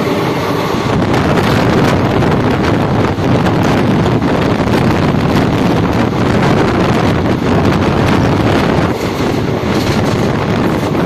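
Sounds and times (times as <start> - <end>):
train rumbling on rails: 0.0 - 11.0
wind buffeting microphone: 0.0 - 11.0.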